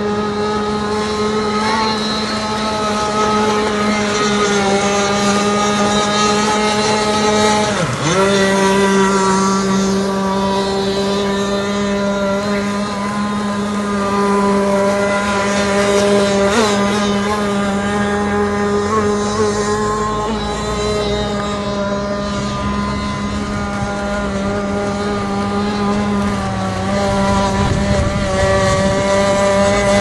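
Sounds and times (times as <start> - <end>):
model boat engine buzzing: 0.0 - 30.0.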